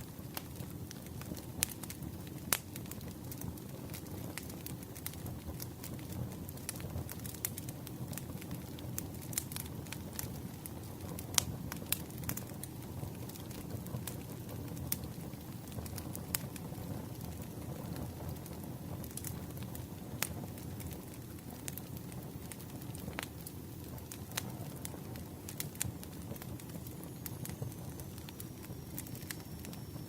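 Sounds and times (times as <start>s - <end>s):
campfire rumble: 0.0s - 30.0s
fire crackling and popping: 0.0s - 30.0s.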